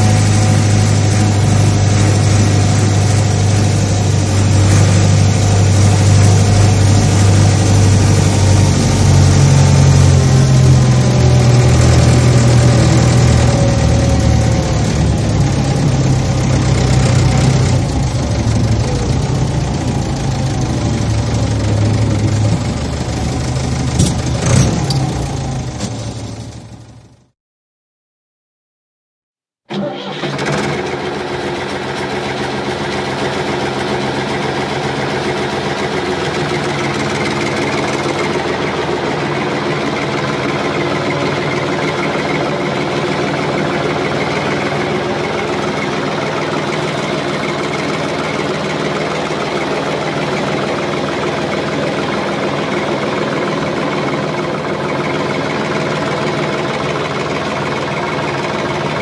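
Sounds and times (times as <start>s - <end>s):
engine running steadily: 0.0s - 27.3s, 29.7s - 59.0s.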